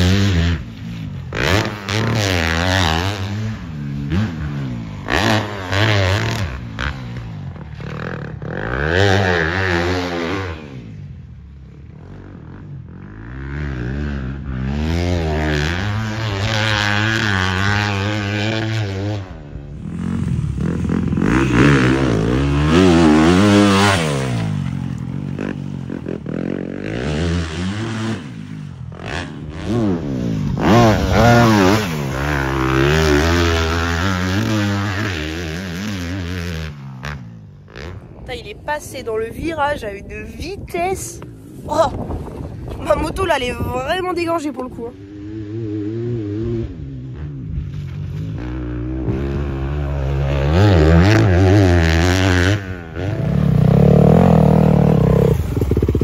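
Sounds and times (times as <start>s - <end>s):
motocross bike engine revving: 0.0s - 38.2s, 44.9s - 56.0s.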